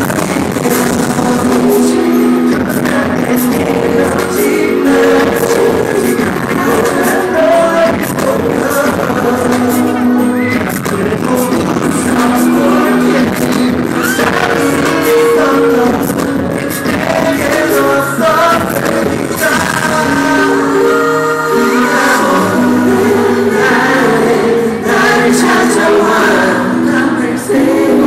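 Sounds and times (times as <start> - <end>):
backing track over loudspeakers: 0.0 - 28.0
men singing pop ballad live: 0.0 - 28.0.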